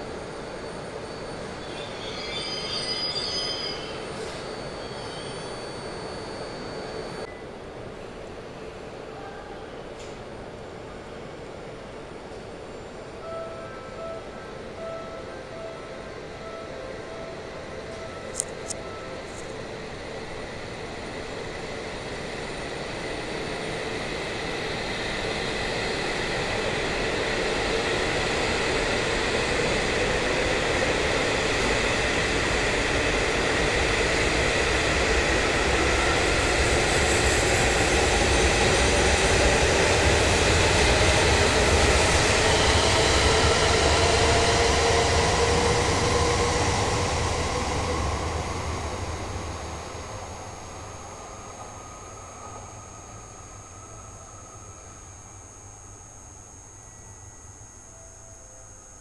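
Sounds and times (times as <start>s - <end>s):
train rumble: 0.0s - 55.8s
train whine climbing in pitch: 0.0s - 59.0s.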